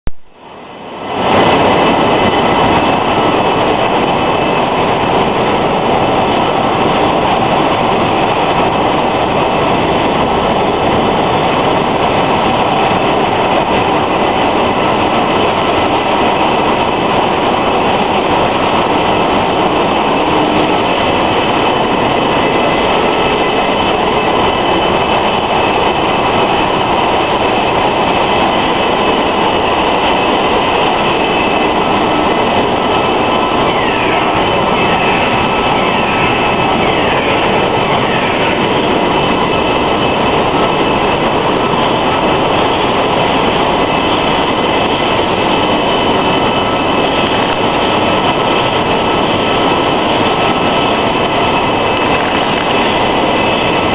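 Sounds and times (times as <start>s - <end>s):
industrial machinery din: 0.8s - 53.9s.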